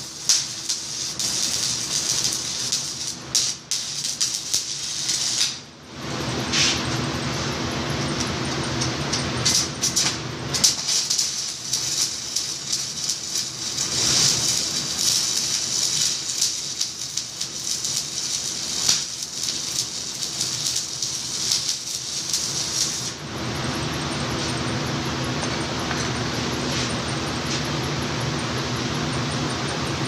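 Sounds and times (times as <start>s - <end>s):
welding arc crackling: 0.0s - 25.8s.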